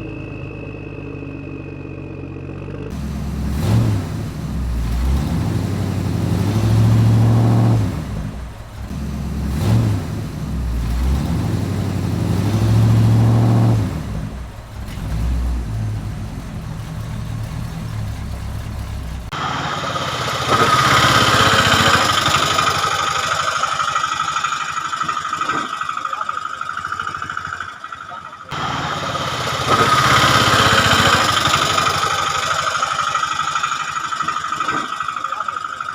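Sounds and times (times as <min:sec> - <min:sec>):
vehicle engine revving: 0:00.0 - 0:35.9.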